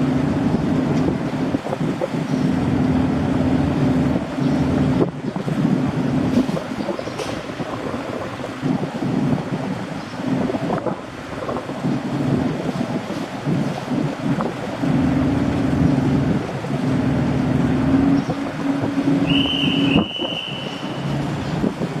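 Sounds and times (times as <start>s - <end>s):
ferry engine drone: 0.0s - 22.0s
wind gusts on microphone: 0.0s - 22.0s.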